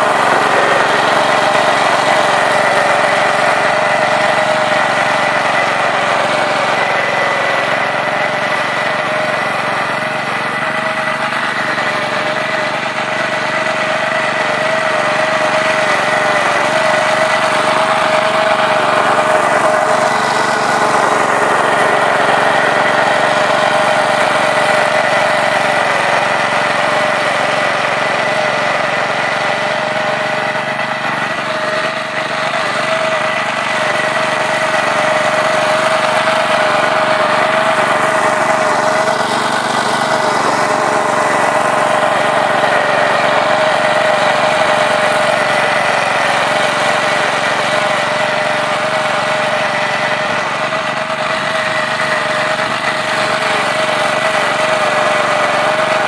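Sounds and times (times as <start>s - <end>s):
cultivator petrol engine running: 0.0s - 56.0s.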